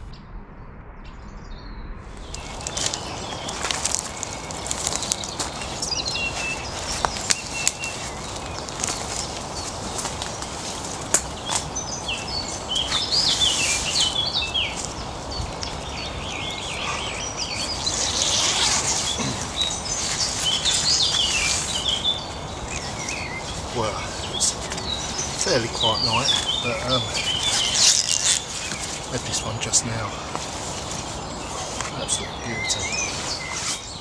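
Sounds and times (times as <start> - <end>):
small songbirds chirping: 1.4 - 34.0
rustling: 2.2 - 34.0.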